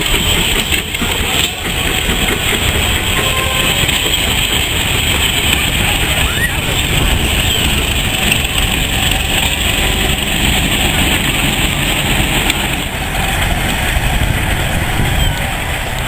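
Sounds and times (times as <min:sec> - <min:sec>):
train rumble and hiss: 0:00.0 - 0:16.0.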